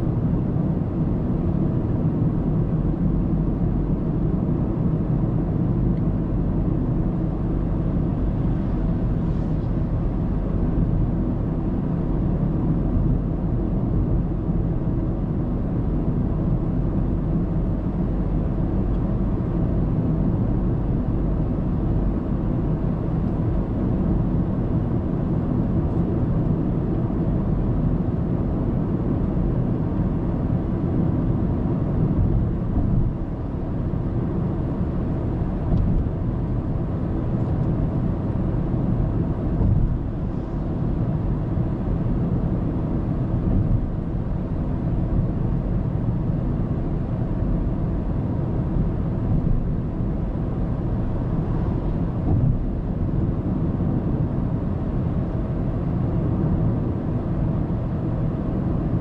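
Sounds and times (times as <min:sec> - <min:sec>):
road and engine rumble in car: 0:00.0 - 0:59.0.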